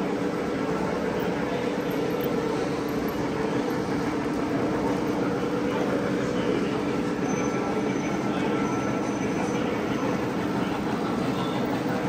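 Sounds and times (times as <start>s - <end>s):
model trains rumbling: 0.0s - 12.0s.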